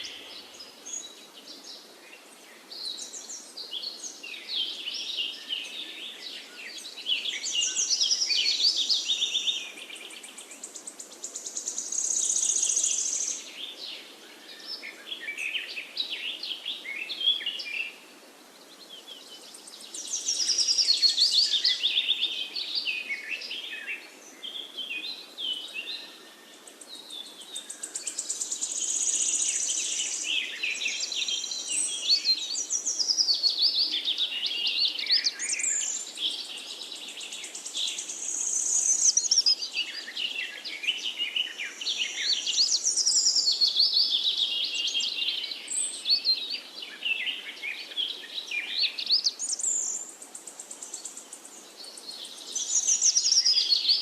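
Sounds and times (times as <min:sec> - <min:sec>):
birds singing and trilling: 0:00.0 - 0:54.0.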